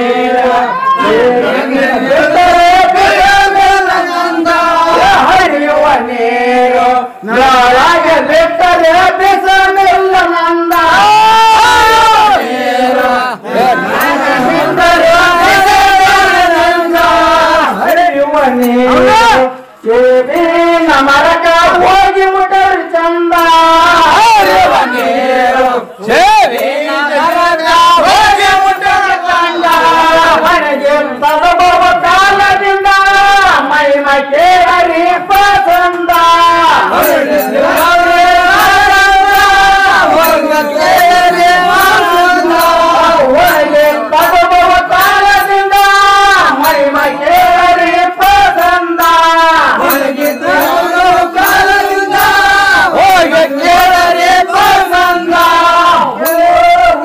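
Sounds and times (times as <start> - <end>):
men singing in chorus: 0.0 - 57.0.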